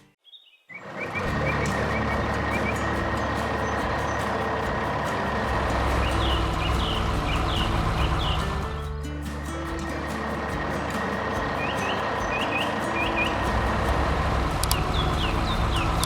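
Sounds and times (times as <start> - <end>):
bird chirps: 0.0 - 16.0
truck engine rumbling: 0.8 - 16.0.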